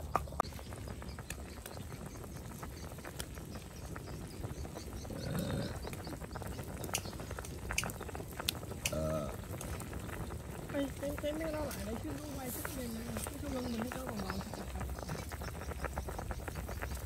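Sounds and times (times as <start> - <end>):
soup boiling and bubbling: 0.0 - 17.0.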